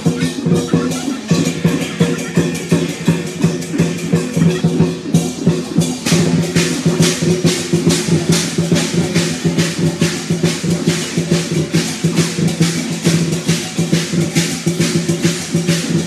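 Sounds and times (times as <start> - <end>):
cymbals clashing: 0.0 - 16.0
drums playing quick steady beat: 0.0 - 16.0.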